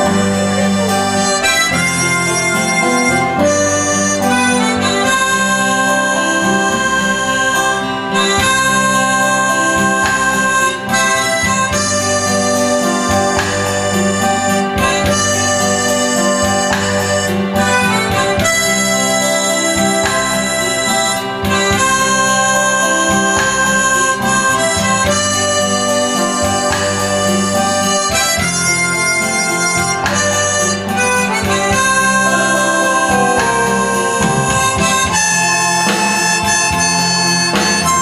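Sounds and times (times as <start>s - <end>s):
backing accompaniment: 0.0s - 38.0s
harmonica melody: 0.0s - 38.0s.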